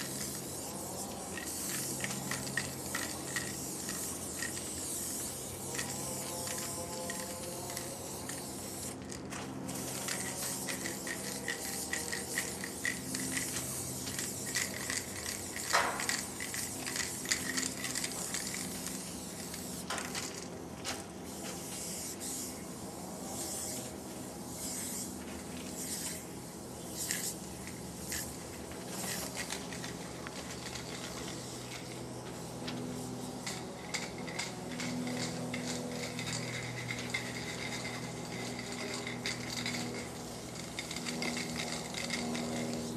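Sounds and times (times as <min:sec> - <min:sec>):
spray paint can hissing: 0:00.0 - 0:42.9.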